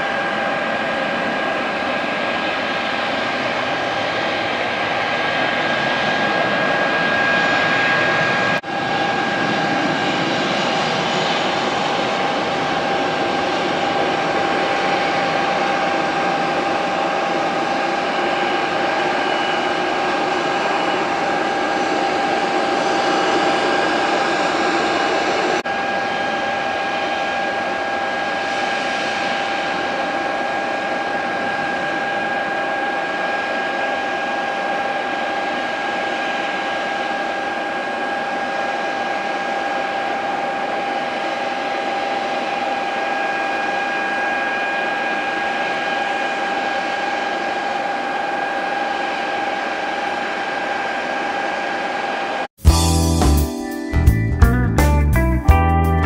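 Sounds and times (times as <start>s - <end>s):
jet engine whine and roar: 0.0s - 52.5s.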